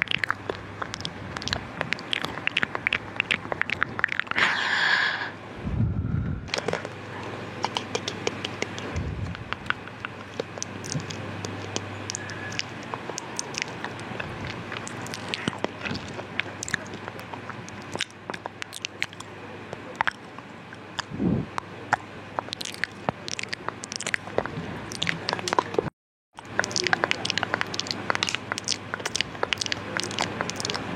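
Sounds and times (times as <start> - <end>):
lip and tongue clicks: 0.0 - 4.6, 6.5 - 30.9.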